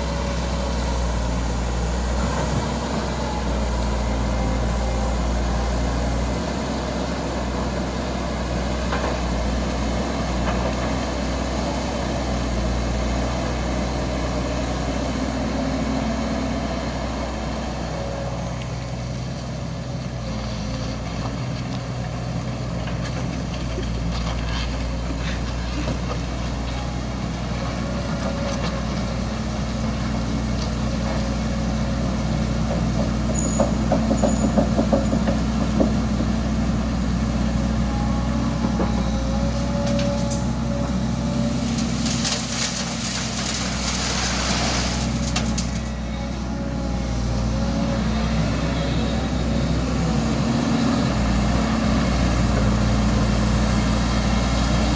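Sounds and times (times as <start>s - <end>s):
excavator diesel engine droning: 0.0s - 54.9s.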